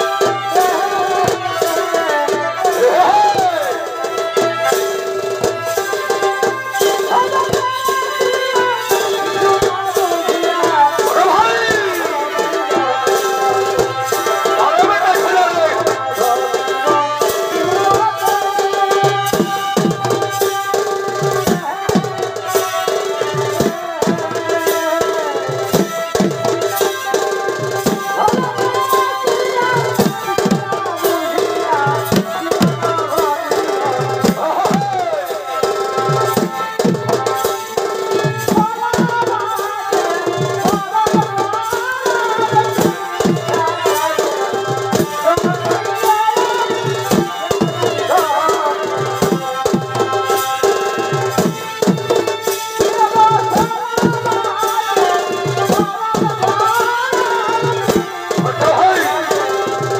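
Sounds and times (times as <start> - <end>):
drums keeping steady beat: 0.0 - 59.9.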